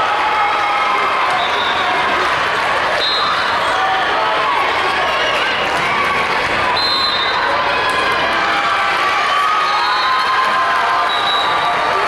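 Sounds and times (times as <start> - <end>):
crowd cheering and shouting: 0.0 - 12.0.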